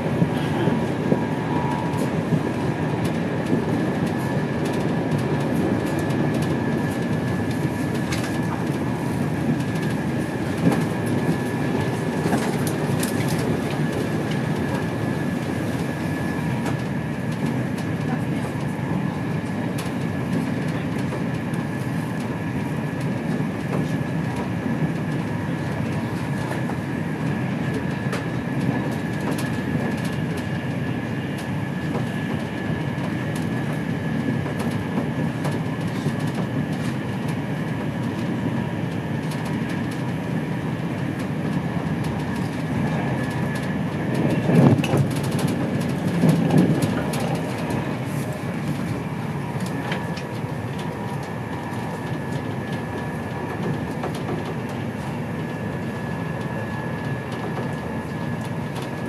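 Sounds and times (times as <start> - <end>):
train coach rumble: 0.0 - 59.0.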